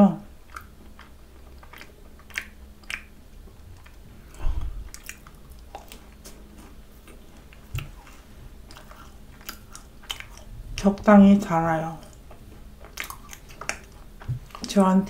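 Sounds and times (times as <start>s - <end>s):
chewing with wet mouth clicks: 0.3s - 11.2s, 11.8s - 15.0s.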